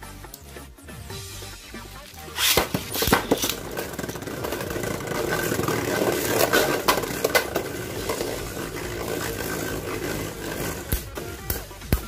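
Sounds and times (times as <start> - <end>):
spinning tops whirring and scraping: 1.8 - 12.0
spinning tops knocking: 2.0 - 12.0.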